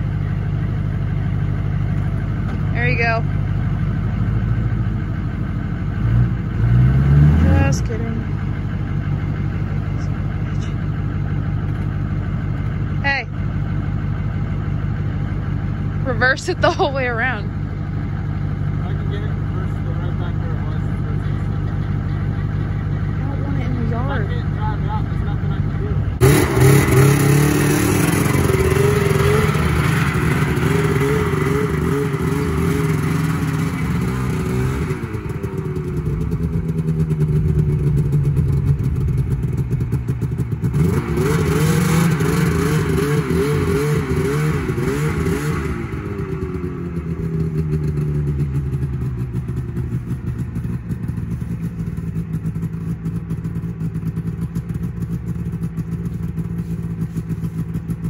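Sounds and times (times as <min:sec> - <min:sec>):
vehicle engine revving: 0:01.0 - 0:58.0.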